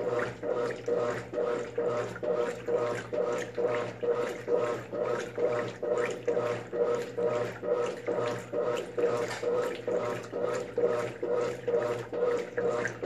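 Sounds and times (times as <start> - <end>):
motor hum: 0.0 - 13.0
washing machine agitator swishing: 0.0 - 13.0.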